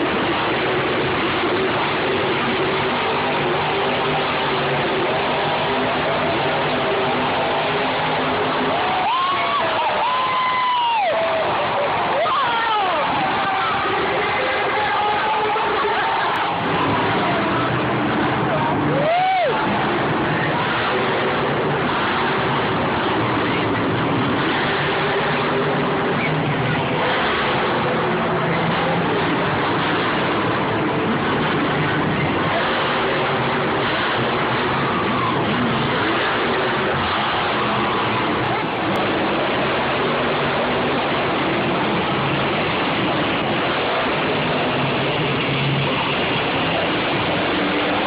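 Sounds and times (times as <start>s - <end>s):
monster truck engines running: 0.0s - 48.0s
stadium crowd noise: 0.0s - 48.0s.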